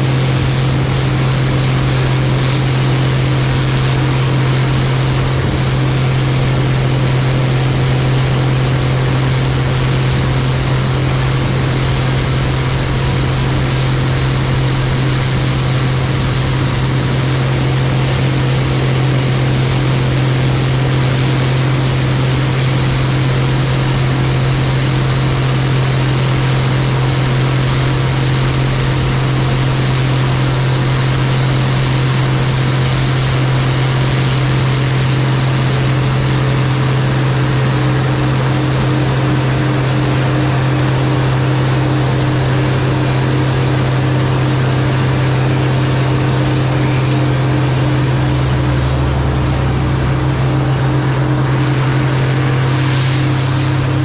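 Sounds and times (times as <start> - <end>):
drone propellers humming: 0.0 - 54.0.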